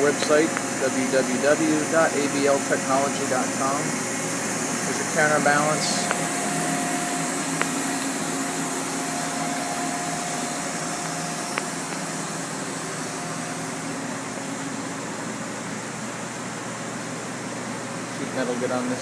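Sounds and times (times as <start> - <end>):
machinery whirring hum: 0.0 - 19.0.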